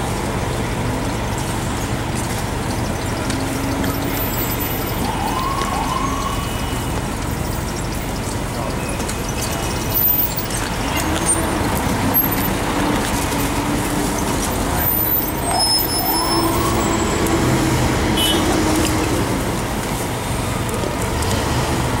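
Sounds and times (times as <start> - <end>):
bus engine running: 0.0 - 22.0
street traffic: 0.0 - 22.0.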